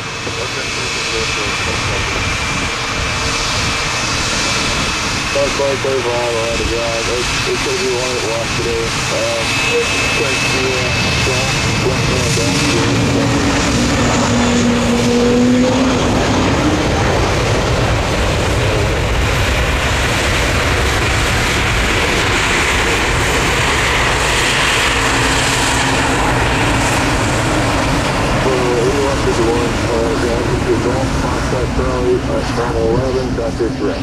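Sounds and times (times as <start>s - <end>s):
jet airliner engines: 0.0s - 34.0s
steady engine tones: 0.0s - 34.0s.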